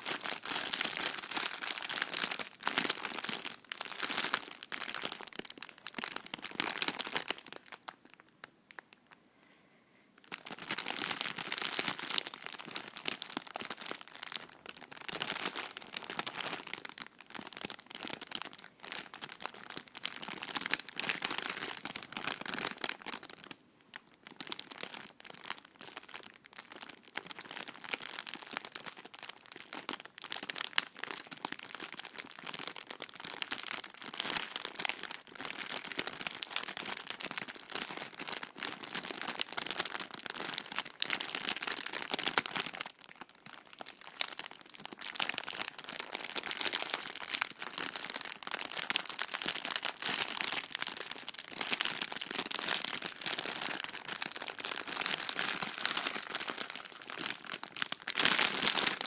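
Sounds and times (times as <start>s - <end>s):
plastic bag crinkling: 0.0s - 9.1s, 10.2s - 59.0s.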